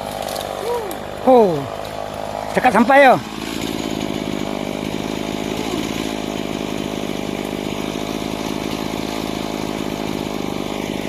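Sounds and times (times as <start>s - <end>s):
chainsaw running at high speed: 0.0s - 11.0s.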